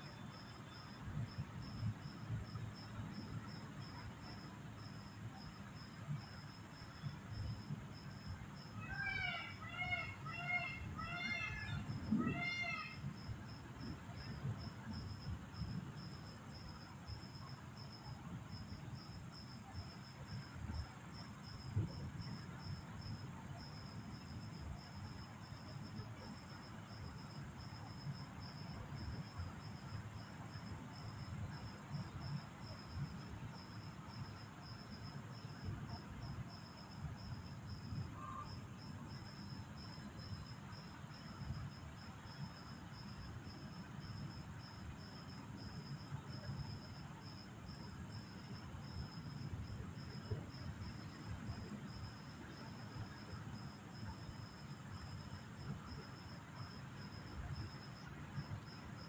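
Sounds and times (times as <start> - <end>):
night insects chirping: 0.0 - 59.0.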